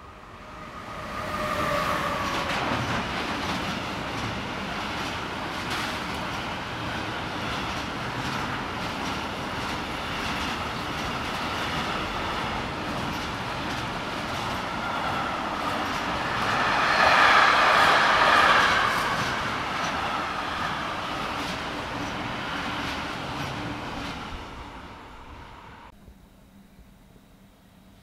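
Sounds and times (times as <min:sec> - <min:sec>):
train passing on tracks: 0:00.0 - 0:25.9.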